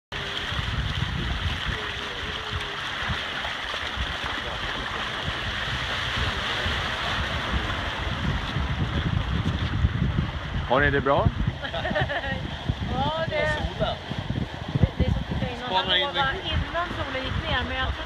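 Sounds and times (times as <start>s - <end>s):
water rushing along hull: 0.1s - 18.0s
wind rumble on microphone: 0.1s - 18.0s.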